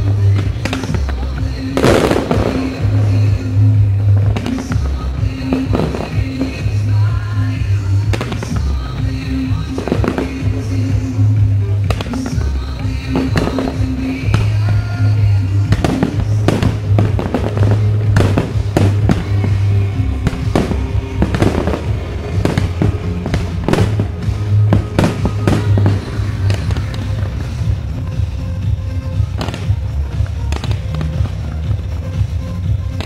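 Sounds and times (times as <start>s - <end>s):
fireworks bangs and crackles: 0.0s - 33.0s
loud music with strong bass: 0.0s - 33.0s.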